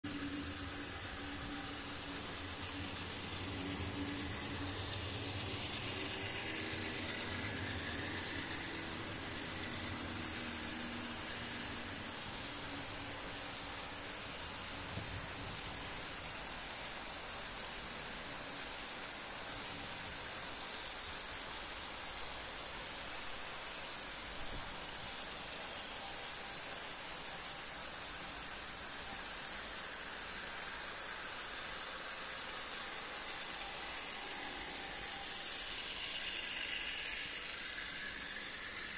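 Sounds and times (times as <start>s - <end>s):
model train wheels on track: 0.0s - 38.9s.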